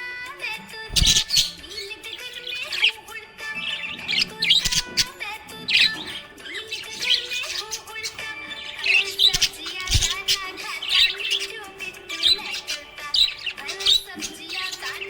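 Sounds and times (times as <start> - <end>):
background music with held notes: 0.0 - 15.0
parrots chirping: 0.7 - 15.0.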